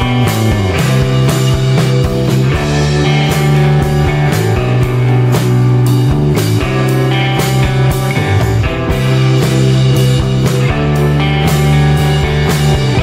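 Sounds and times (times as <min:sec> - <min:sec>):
music with drum beat and guitar: 0:00.0 - 0:13.0.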